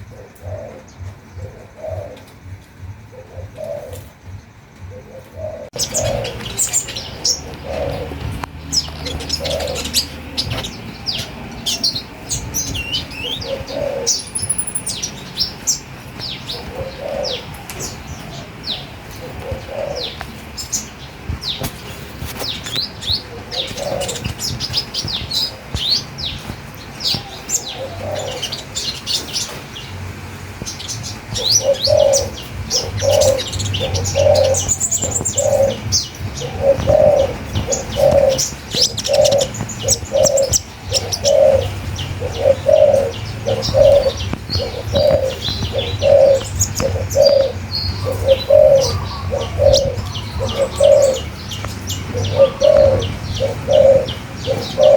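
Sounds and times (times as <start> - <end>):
birds chirping and whistling: 0.0 - 54.9.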